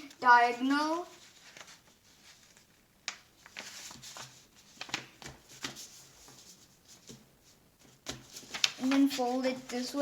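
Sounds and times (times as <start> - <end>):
paper crinkling and rustling: 1.1 - 10.0.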